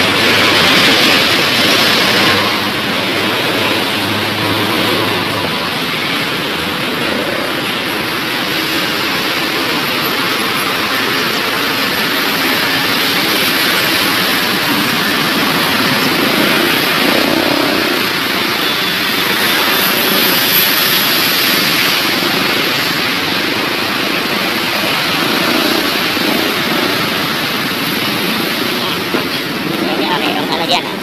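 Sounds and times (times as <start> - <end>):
steady engine roar: 0.0 - 31.0.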